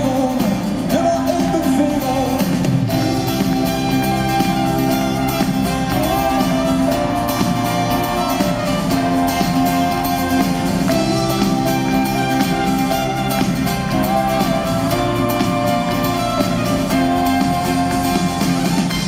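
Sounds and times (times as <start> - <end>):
acoustic guitar: 0.0 - 19.0
acoustic rock band playing: 0.0 - 19.0.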